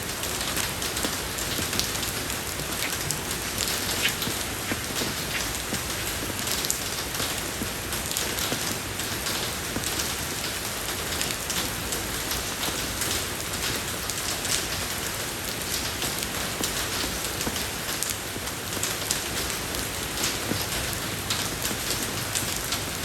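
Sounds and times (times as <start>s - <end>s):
rain falling on a road: 0.0s - 23.0s.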